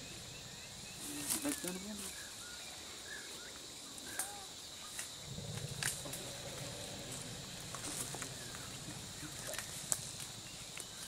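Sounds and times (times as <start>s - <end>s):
high insect tone: 0.0s - 11.0s.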